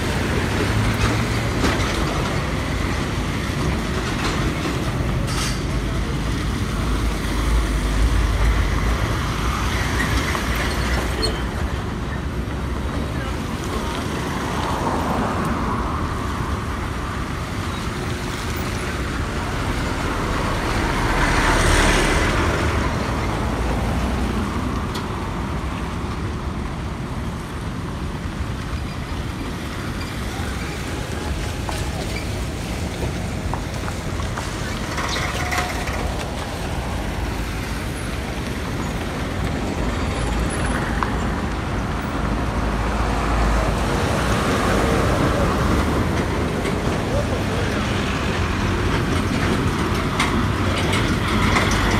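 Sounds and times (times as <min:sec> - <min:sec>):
road traffic rumble: 0:00.0 - 0:51.9.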